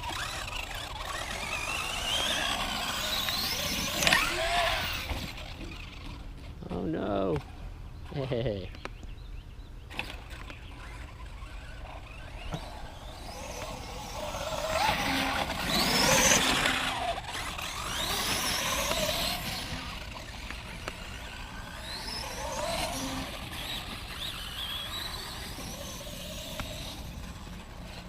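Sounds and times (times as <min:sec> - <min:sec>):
tyres on wet mud: 0:00.0 - 0:06.1, 0:09.9 - 0:28.0
electric motor whining: 0:00.0 - 0:07.2, 0:09.9 - 0:28.0.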